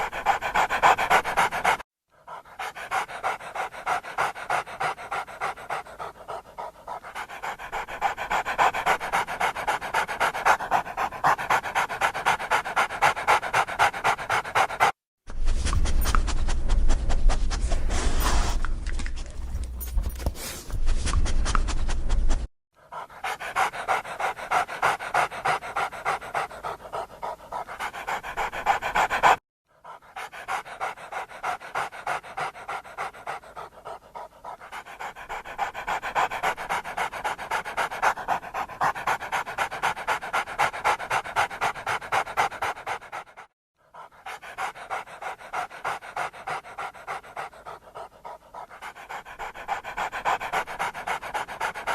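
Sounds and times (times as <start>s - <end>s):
dog panting: 0.0s - 51.9s.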